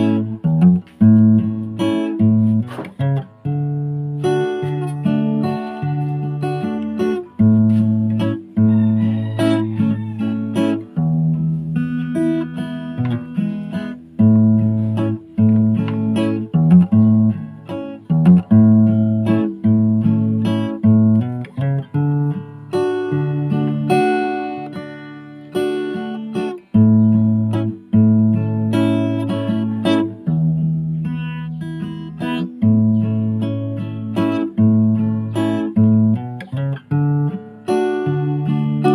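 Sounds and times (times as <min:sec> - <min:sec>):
plucked acoustic guitar melody: 0:00.0 - 0:38.9.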